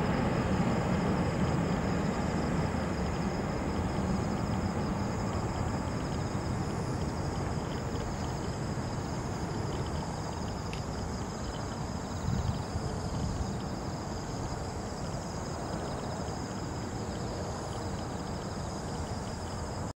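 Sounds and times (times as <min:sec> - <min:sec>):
wind rumbling on microphone: 0:00.0 - 0:19.8
high-pitched insect trill: 0:00.0 - 0:19.9.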